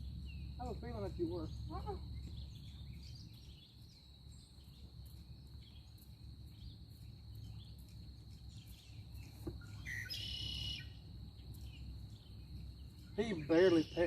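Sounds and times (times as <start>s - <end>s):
faint bird chirps: 0.0s - 14.0s
insect drone: 0.0s - 14.0s.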